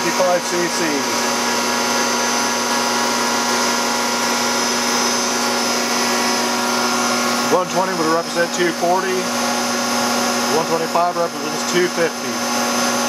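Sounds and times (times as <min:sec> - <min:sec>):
pump test stand humming: 0:00.0 - 0:13.0.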